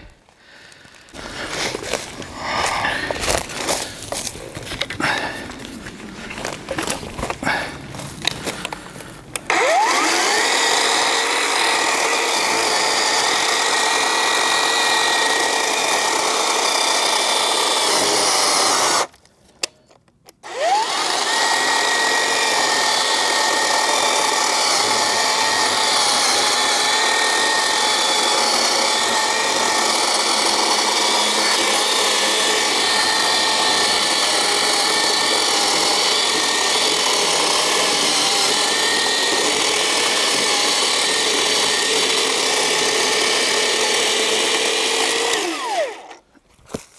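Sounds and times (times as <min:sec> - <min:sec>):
electric chainsaw whining: 0:01.1 - 0:05.6, 0:06.3 - 0:19.2, 0:20.4 - 0:46.3.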